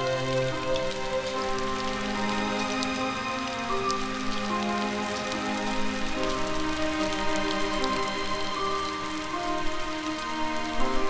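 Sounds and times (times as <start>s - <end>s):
rain falling steadily: 0.0s - 11.0s
raindrop ticks: 0.0s - 11.0s
slow music with held notes: 0.0s - 11.0s.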